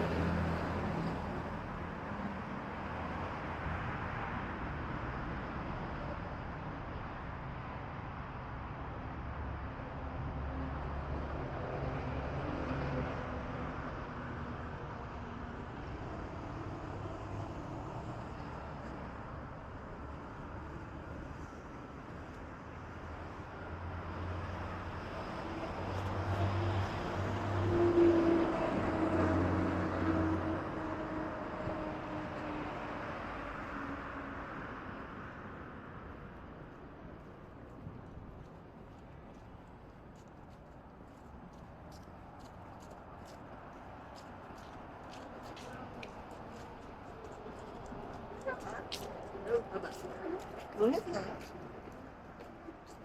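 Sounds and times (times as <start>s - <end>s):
street noise: 0.0s - 53.0s.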